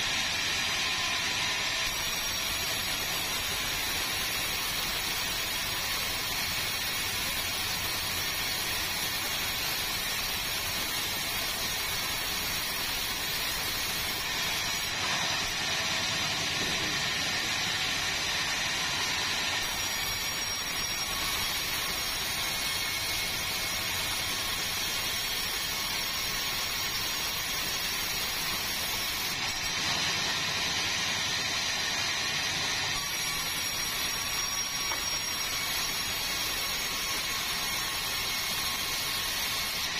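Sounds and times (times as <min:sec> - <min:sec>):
sawmill machinery whirring: 0:00.0 - 0:39.9.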